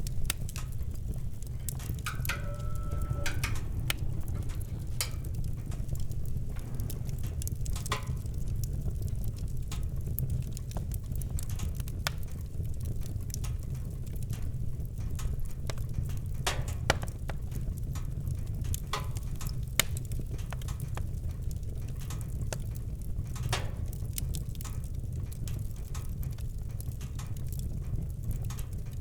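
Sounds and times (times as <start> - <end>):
burning wood popping: 0.0 - 29.0
campfire crackling: 0.0 - 29.0
low rumble of fire: 0.0 - 29.0.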